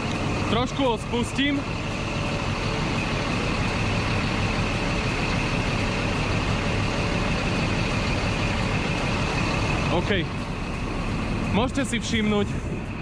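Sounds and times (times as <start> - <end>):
air suspension hissing: 0.0 - 13.0
truck diesel engine running: 0.0 - 13.0.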